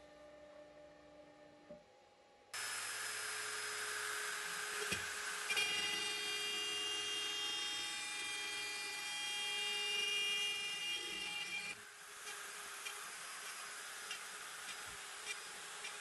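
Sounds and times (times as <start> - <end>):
router spindle whining: 2.6 - 16.0.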